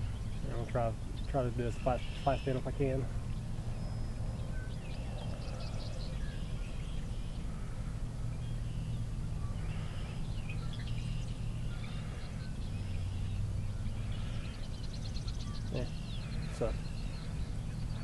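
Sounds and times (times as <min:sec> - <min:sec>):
birds chirping and calling: 0:00.0 - 0:18.0
steady low hum: 0:00.0 - 0:18.0.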